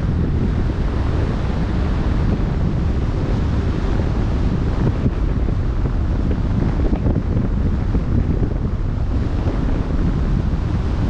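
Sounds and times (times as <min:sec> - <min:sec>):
sea waves rushing: 0:00.0 - 0:11.0
wind buffeting microphone: 0:00.0 - 0:11.0.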